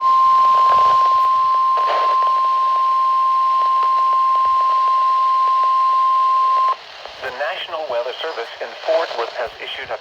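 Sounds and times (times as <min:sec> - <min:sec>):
radio hiss with crackles: 0:00.4 - 0:10.0.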